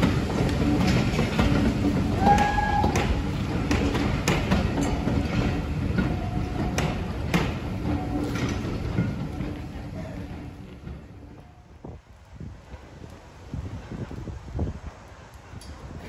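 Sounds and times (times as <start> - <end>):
train coaches rumbling on track: 0.0 - 16.0.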